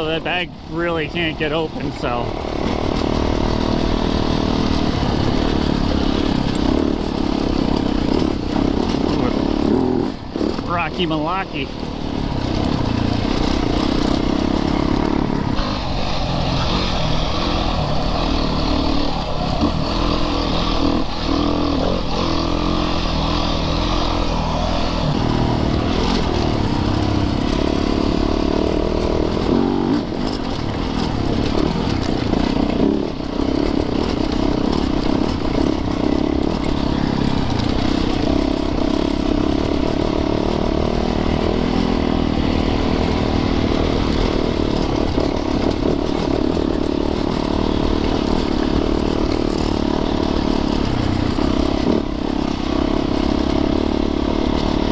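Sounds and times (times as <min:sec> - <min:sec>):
dirt bike engine running hard: 0:00.0 - 0:54.9.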